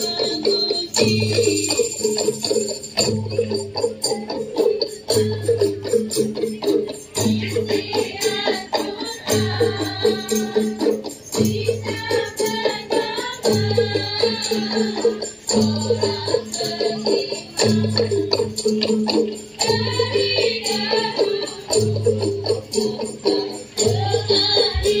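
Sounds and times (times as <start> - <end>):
women singing over loudspeakers: 0.0 - 2.0, 4.0 - 18.5, 19.5 - 22.0, 22.6 - 25.0
drums: 0.0 - 25.0
jingling tambourine: 0.0 - 25.0.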